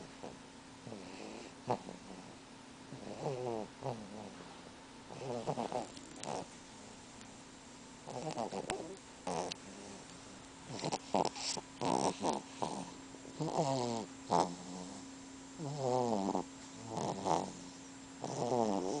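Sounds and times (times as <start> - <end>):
baby snoring: 0.2 - 4.4, 5.1 - 6.5, 8.1 - 10.0, 10.7 - 15.0, 15.6 - 19.0.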